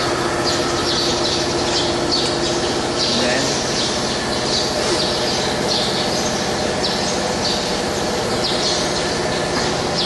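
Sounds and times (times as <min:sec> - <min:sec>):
machine mechanical hum: 0:00.0 - 0:10.0.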